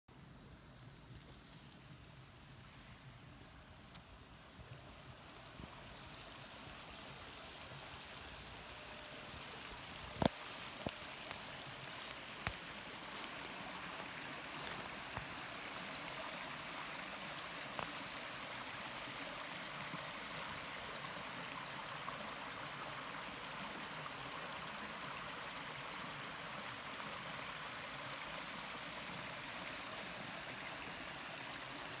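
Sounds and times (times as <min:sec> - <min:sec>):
stream running over rocks: 0:00.2 - 0:32.0.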